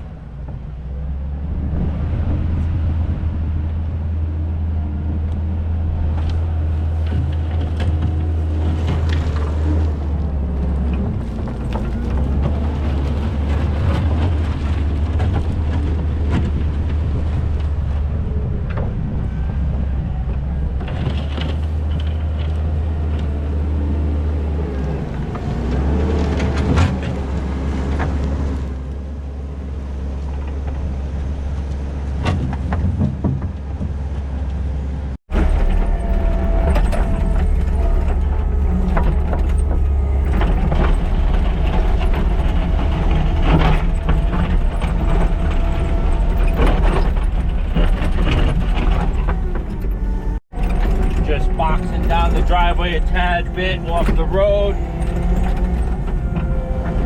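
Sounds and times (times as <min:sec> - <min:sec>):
diesel engine running under load: 0:00.0 - 0:33.0, 0:34.3 - 0:57.0
tracks and blade scraping dirt: 0:01.4 - 0:29.0, 0:35.3 - 0:57.0.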